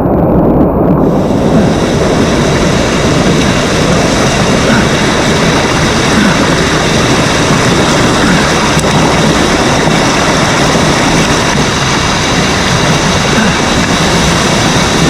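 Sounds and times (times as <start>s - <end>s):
stream water rushing over rocks: 1.0s - 15.0s.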